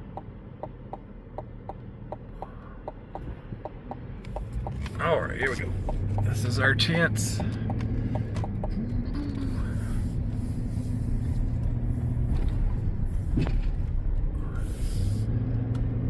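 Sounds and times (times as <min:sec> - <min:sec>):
road rumble: 0:00.0 - 0:16.0
vehicle engine accelerating: 0:00.0 - 0:16.0.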